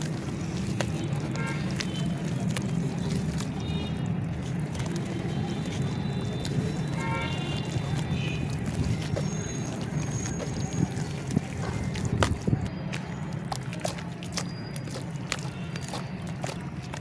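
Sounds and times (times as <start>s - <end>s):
muddy water sloshing: 0.0s - 17.0s
small wet splashes and squishes: 0.0s - 17.0s.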